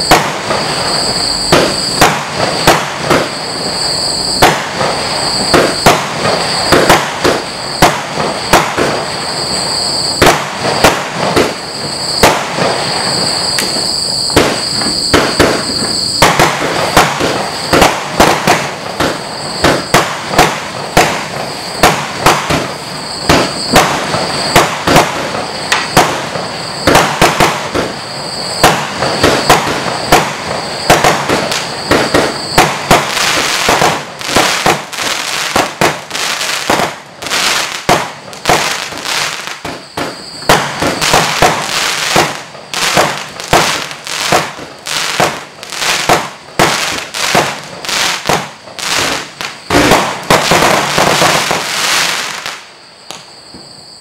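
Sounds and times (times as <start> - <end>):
firework shots bursting: 0.0 - 52.6.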